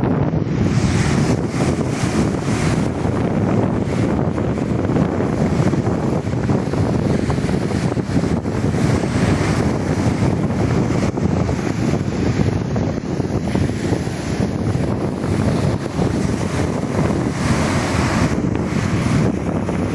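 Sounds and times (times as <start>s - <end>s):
sea surf rushing: 0.0s - 19.9s
wind buffeting microphone: 0.0s - 19.9s.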